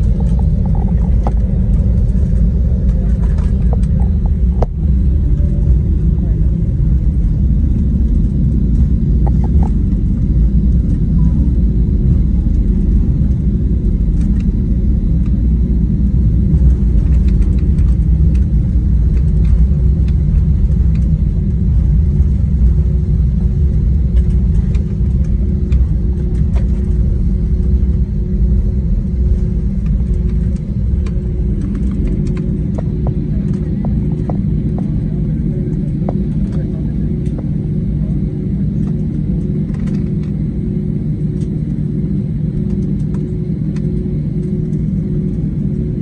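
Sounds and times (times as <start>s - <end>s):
wheels rolling on taxiway: 0.0s - 37.8s
faint steady hum: 0.0s - 46.0s
jet engines idling: 0.0s - 46.0s.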